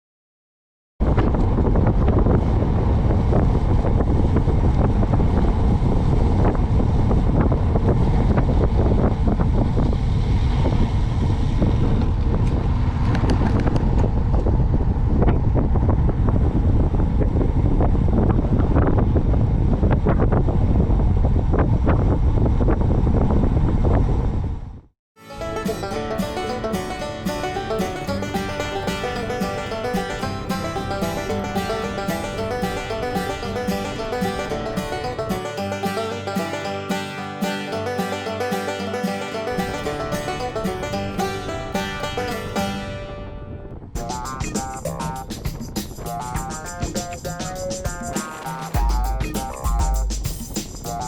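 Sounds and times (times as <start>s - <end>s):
wind buffeting microphone: 1.0s - 24.8s, 25.4s - 36.8s, 37.8s - 46.9s.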